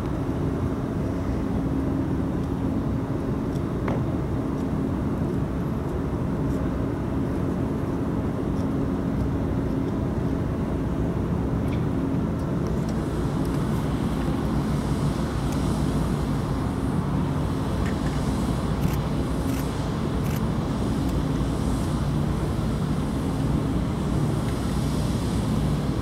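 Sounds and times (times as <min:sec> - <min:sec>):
constant low hum: 0:00.0 - 0:26.0
low engine rumble: 0:00.0 - 0:26.0.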